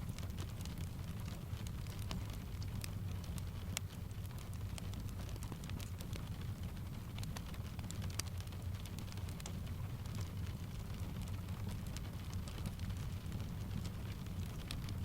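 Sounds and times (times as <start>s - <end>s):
rain tapping on a window: 0.0s - 15.0s
wood fire crackling: 0.0s - 15.0s.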